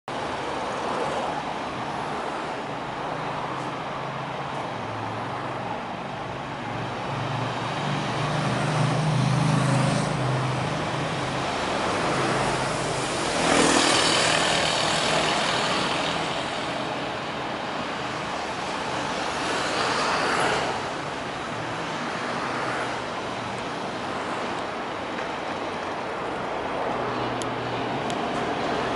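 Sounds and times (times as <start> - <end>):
road traffic engines: 0.1 - 28.9.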